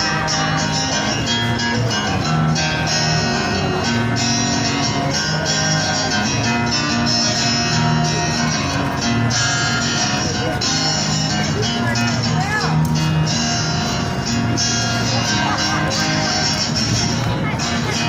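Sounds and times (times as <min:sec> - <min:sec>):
bass guitar: 0:00.0 - 0:18.0
strummed acoustic guitar chords: 0:00.0 - 0:18.0.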